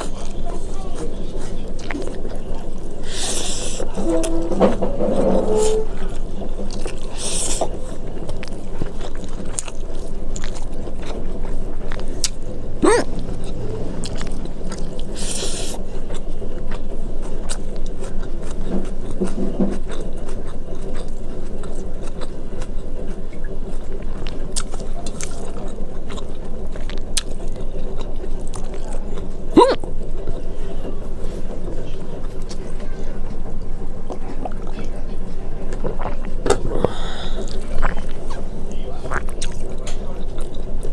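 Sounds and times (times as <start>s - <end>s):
chewing: 0.0s - 30.4s, 31.2s - 32.9s, 33.5s - 40.9s.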